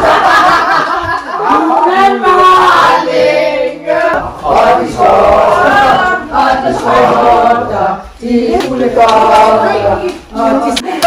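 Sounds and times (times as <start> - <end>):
group singing a carol: 0.0 - 11.0.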